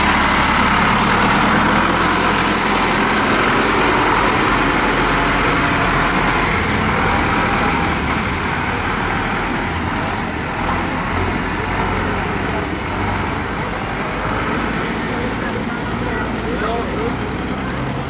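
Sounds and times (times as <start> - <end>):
tractor engines rumbling: 0.0 - 18.0.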